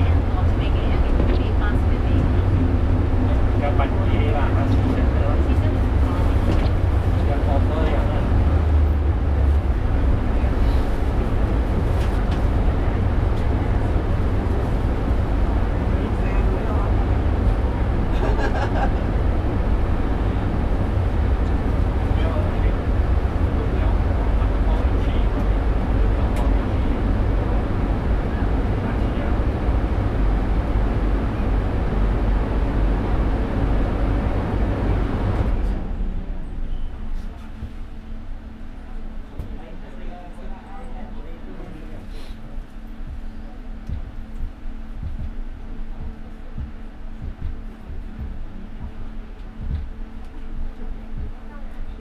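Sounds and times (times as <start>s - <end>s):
funicular car rumbling: 0.0s - 52.0s.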